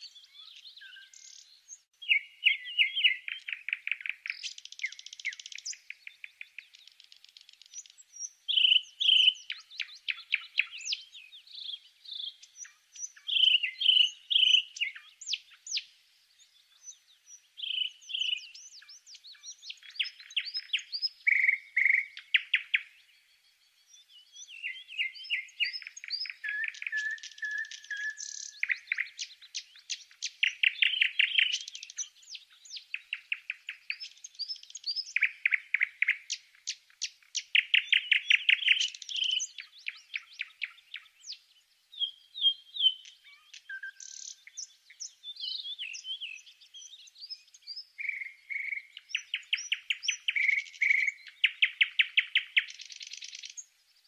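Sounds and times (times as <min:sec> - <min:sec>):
small bird singing: 0:00.0 - 0:54.0.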